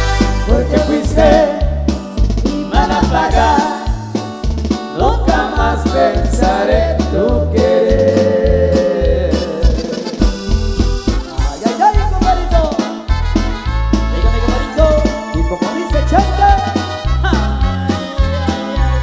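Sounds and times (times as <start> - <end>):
upbeat dance band music: 0.0 - 19.0.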